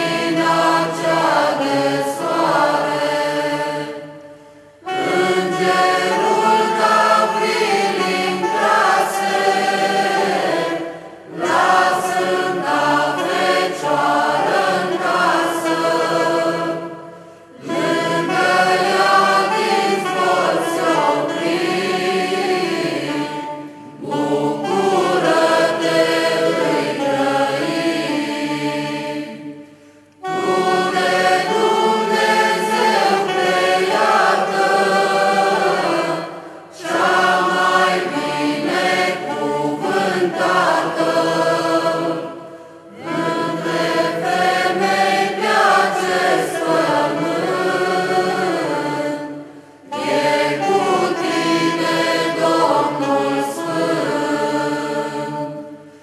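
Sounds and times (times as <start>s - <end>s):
mixed choir singing a carol: 0.0s - 56.0s.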